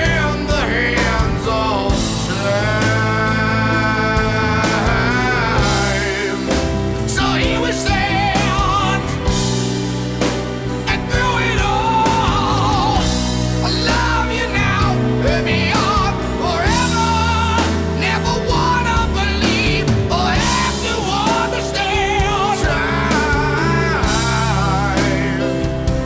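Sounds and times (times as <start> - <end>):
person singing: 0.0 - 26.0
rock song background music: 0.0 - 26.0.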